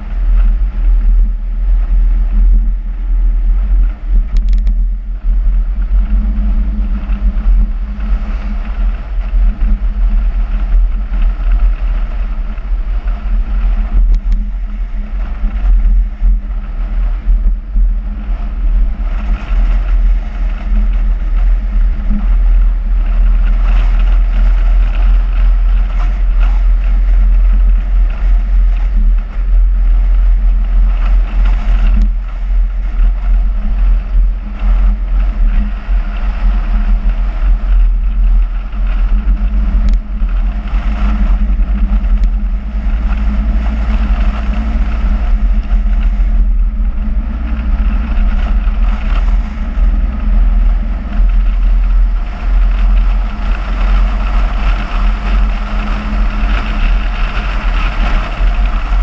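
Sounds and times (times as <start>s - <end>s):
engine and tyre drone: 0.0s - 59.0s
wind rumble on microphone: 0.0s - 59.0s.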